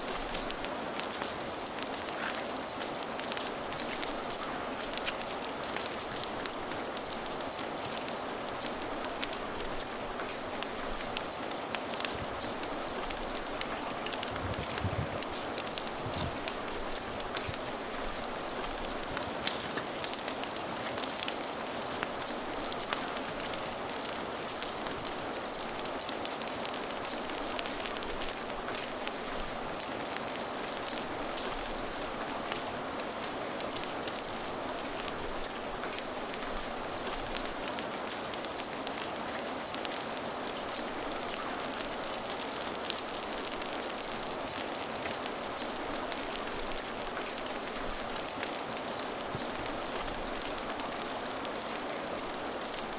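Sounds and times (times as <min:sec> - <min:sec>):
fire crackling and popping: 0:00.0 - 0:52.9
steady rain patter: 0:00.0 - 0:52.9.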